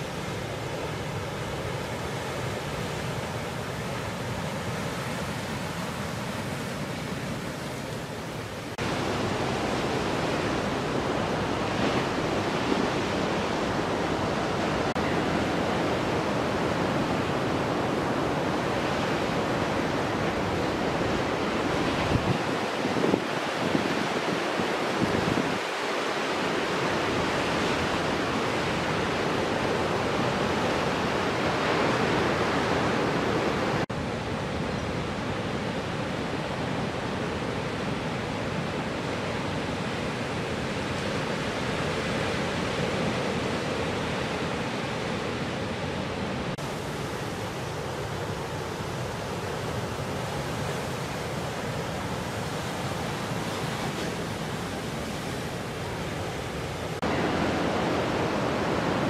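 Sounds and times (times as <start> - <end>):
ocean surf breaking: 0.0 - 59.0.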